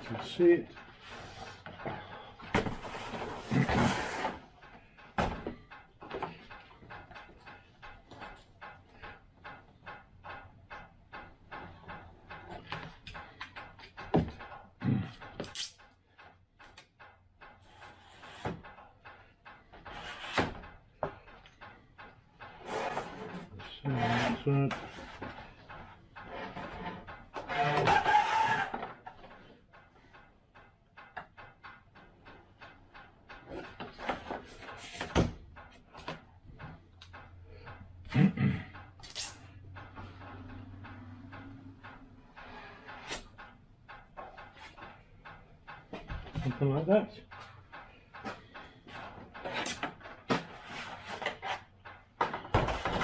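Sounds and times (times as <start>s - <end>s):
clicks and taps of parts: 4.2s - 23.8s, 24.6s - 53.0s.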